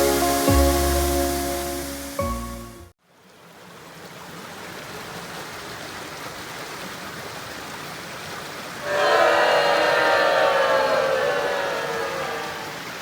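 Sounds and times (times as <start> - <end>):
rushing water: 0.0 - 2.3, 3.0 - 13.0.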